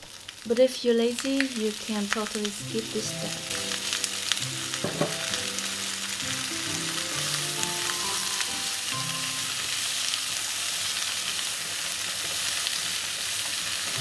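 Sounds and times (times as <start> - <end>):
carrots sizzling in hot oil: 0.0 - 14.0.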